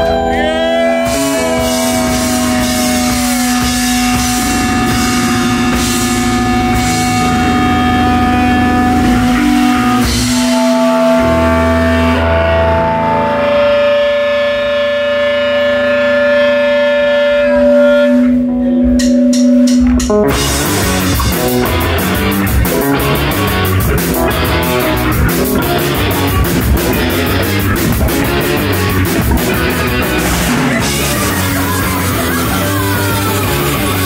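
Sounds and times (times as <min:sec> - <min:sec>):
held guitar notes ringing: 0:00.0 - 0:34.0
punk rock band playing fast: 0:00.0 - 0:34.0.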